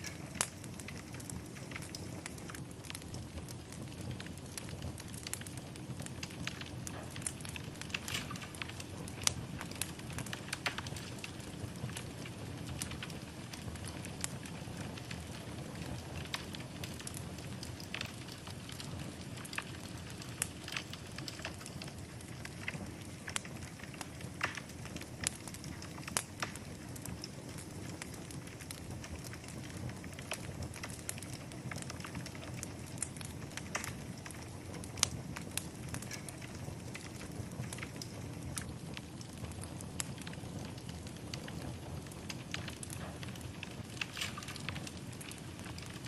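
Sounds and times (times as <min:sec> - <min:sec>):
logs crackling and popping: 0:00.0 - 0:46.0
low rush of flames: 0:00.0 - 0:46.0.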